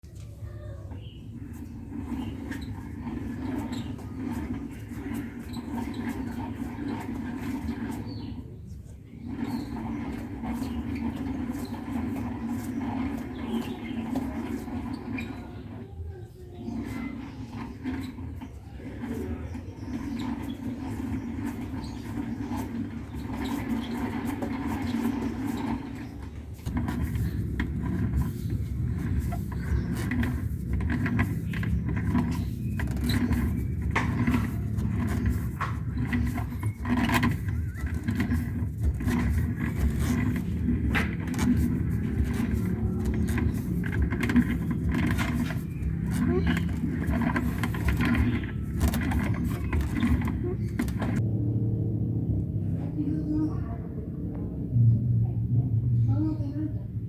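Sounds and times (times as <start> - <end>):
scraping rattling under car: 0.0 - 51.4
low car rumble: 0.0 - 57.0.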